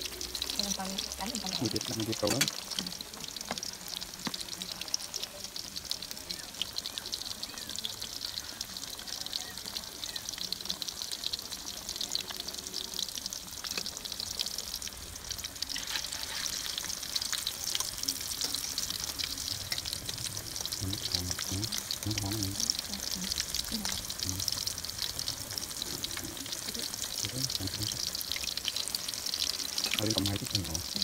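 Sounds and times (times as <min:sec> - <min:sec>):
patties deep-frying in hot oil: 0:00.0 - 0:31.0.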